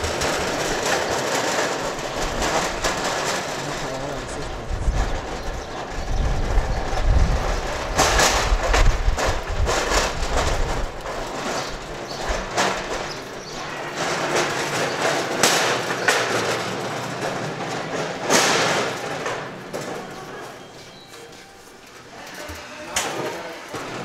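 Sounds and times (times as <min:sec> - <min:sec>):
cart clattering jolts: 0:00.0 - 0:24.0
metal cart rattling over pavement: 0:00.0 - 0:24.0.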